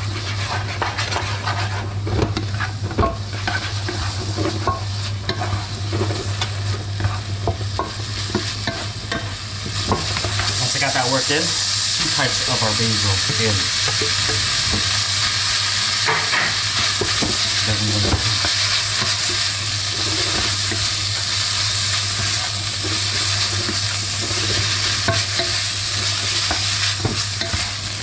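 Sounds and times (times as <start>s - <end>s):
spatula scraping pan: 0.0s - 11.1s, 16.0s - 28.0s
meat sizzling in frying pan: 0.0s - 28.0s.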